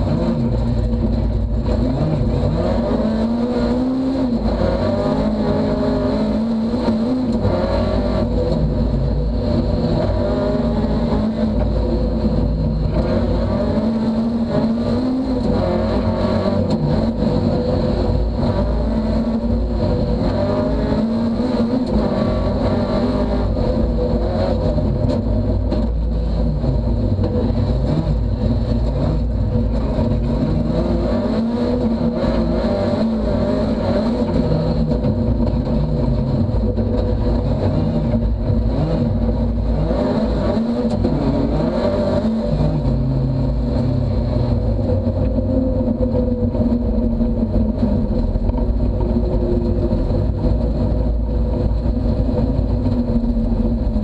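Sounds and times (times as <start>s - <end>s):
car engine revving: 0.0s - 54.0s
road noise: 0.0s - 54.0s.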